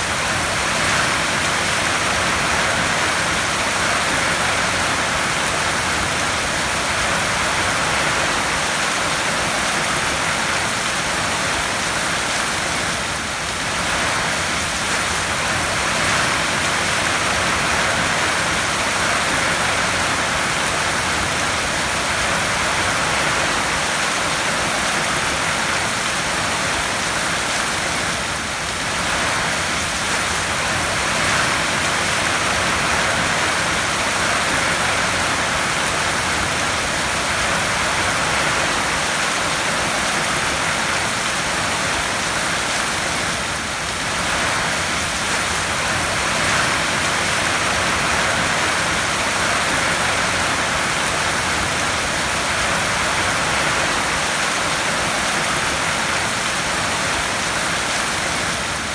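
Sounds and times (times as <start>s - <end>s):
heavy rain on a tin roof: 0.0s - 58.9s.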